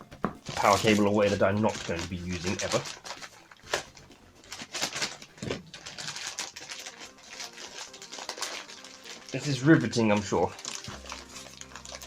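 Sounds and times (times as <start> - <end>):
cables clicking and rustling: 0.0 - 12.0.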